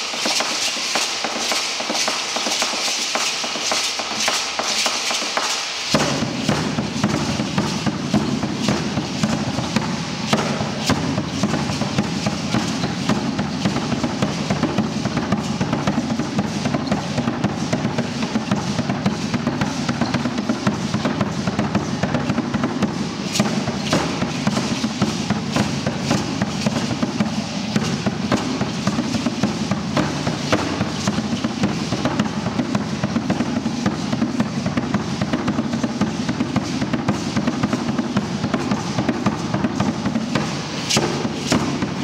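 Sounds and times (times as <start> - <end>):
fast continuous drumming: 0.0 - 42.0.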